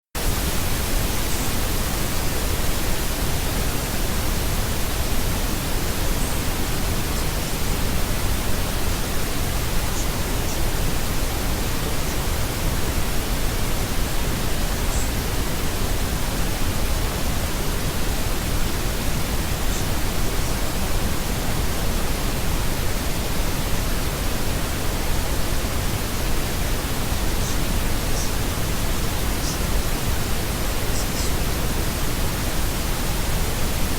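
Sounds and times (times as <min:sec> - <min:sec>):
white noise hiss: 0:00.2 - 0:33.9.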